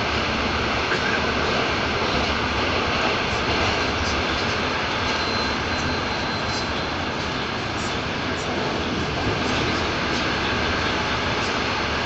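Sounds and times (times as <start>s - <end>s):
train roar inside car: 0.0s - 12.0s.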